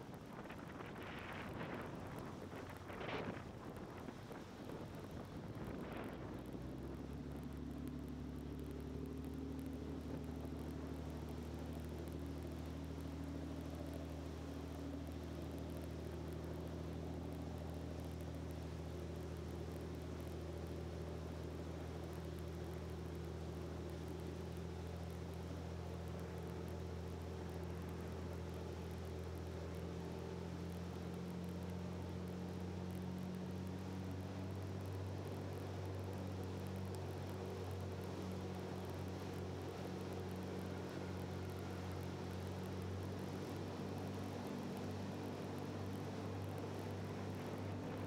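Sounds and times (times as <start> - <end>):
boat engine droning: 0.1 - 48.0.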